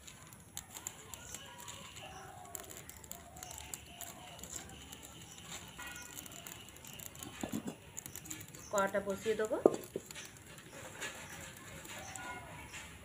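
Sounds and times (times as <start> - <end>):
dry sticks crackling in fire: 0.0 - 13.0.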